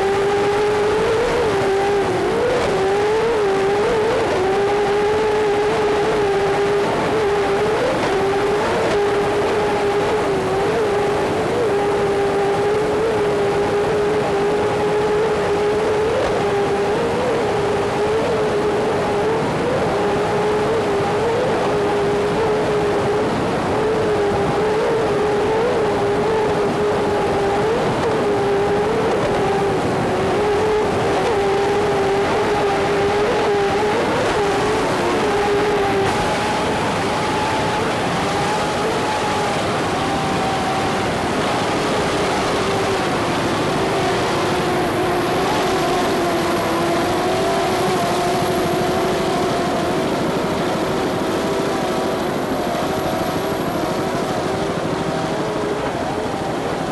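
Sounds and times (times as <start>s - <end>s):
engine droning at high power: 0.0s - 56.9s.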